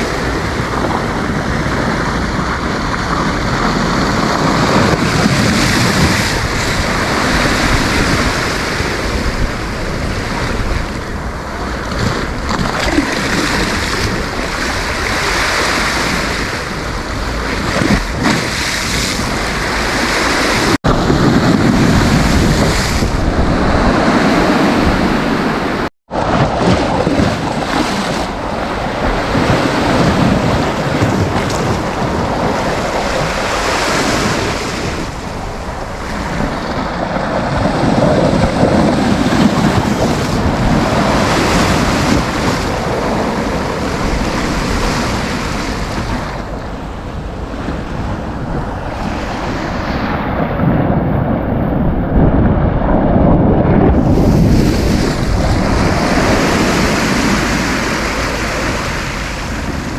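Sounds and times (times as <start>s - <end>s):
sea waves breaking: 0.0s - 59.9s
wind buffeting microphone: 0.0s - 59.9s.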